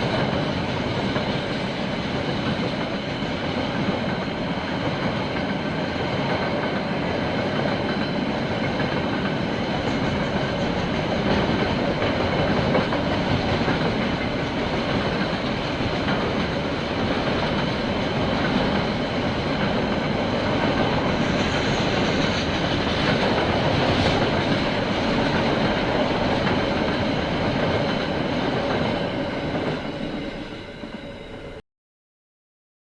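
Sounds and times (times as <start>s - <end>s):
train wagons rolling over track: 0.0s - 31.6s.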